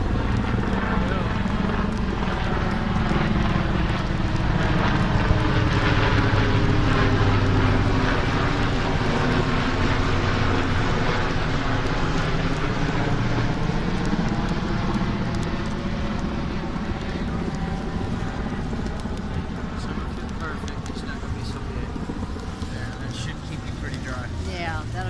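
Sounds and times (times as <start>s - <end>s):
aircraft engine drone: 0.0s - 25.0s.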